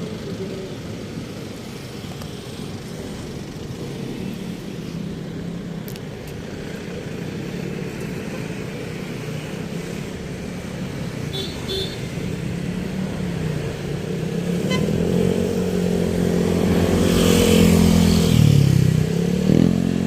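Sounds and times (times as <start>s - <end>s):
vehicle rumble with engine hum: 0.0s - 20.0s.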